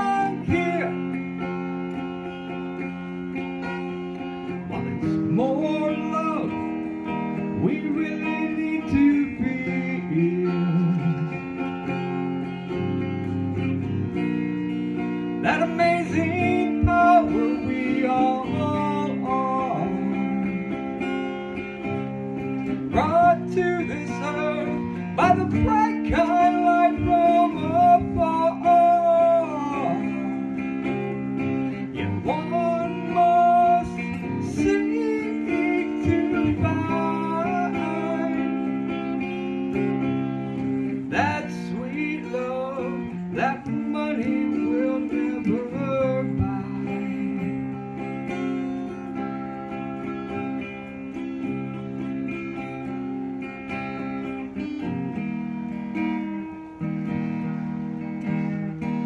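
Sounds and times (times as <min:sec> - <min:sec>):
acoustic guitar music: 0:00.0 - 0:59.0.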